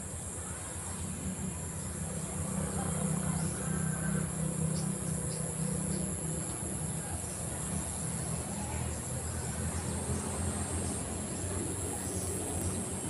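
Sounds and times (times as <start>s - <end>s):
high-pitched hum: 0.0s - 13.0s.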